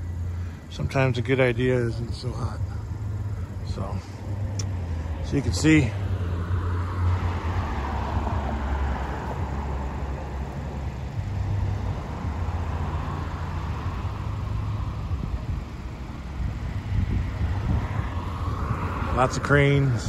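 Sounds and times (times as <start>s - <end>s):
low rumble of cars: 0.0s - 20.0s
vehicle passing by: 0.0s - 20.0s.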